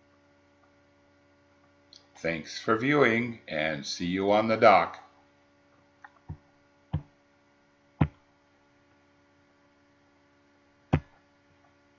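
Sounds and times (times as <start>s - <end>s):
faint electrical hum: 0.0s - 11.9s.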